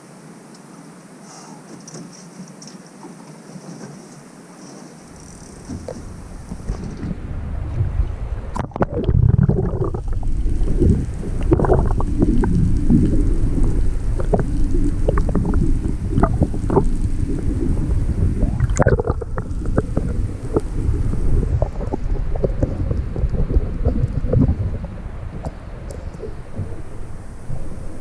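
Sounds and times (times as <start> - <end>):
wind buffeting microphone: 5.1 - 28.0.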